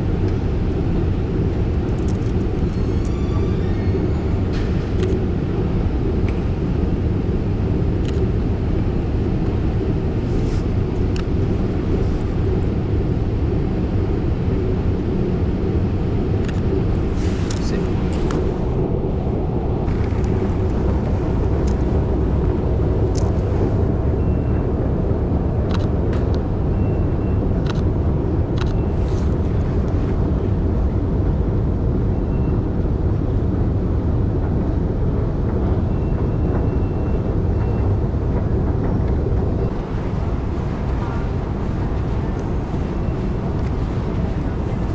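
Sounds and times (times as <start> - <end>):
city background rumble: 0.0 - 44.9.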